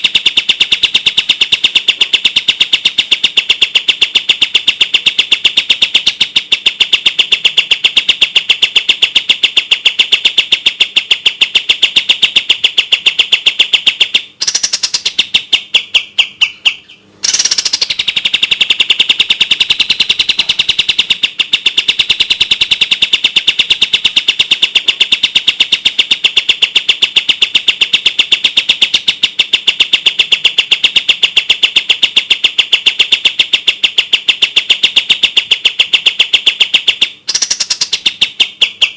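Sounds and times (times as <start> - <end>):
songbird chirping rapidly: 0.0 - 31.2, 36.0 - 38.9.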